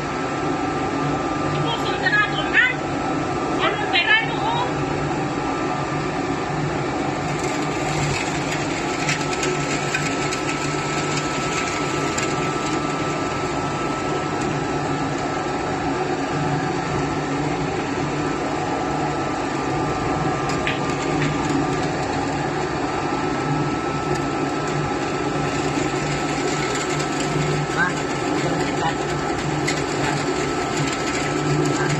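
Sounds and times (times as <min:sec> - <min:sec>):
extruder machine motor hum: 0:00.0 - 0:31.9.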